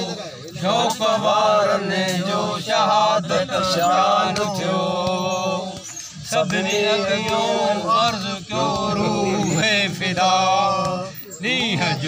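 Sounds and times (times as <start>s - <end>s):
men chanting an elegy: 0.0s - 12.0s.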